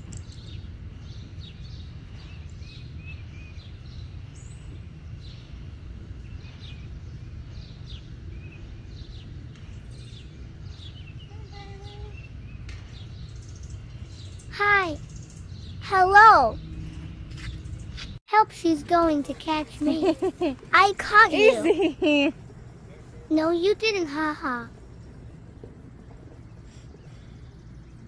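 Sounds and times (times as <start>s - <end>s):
low outdoor rumble: 0.0s - 28.0s
small birds chirping: 0.0s - 28.0s.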